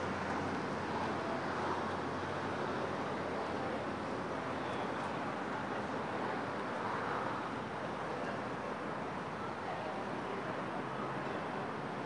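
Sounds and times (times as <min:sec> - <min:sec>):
steady outdoor background noise: 0:00.0 - 0:12.0.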